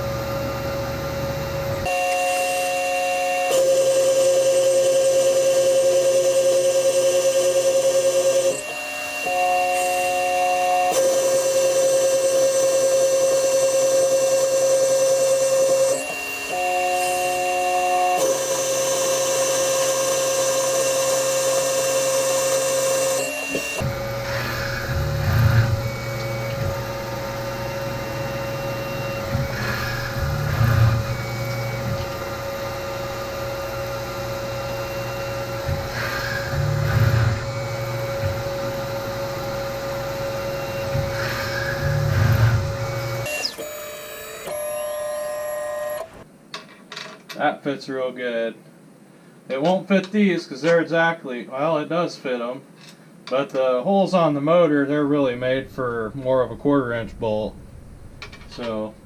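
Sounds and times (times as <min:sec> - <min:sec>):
cnc mill whining: 0:00.0 - 0:46.3, 0:54.3 - 0:59.0.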